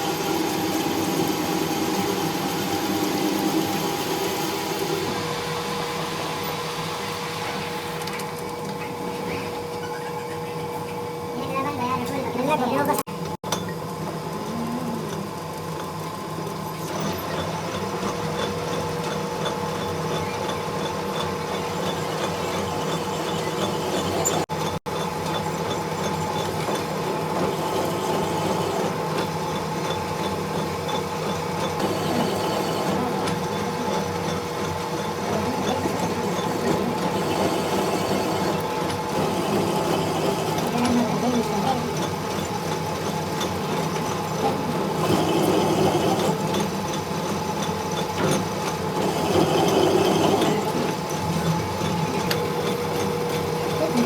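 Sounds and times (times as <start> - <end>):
workshop machine motor humming: 0.0 - 54.0.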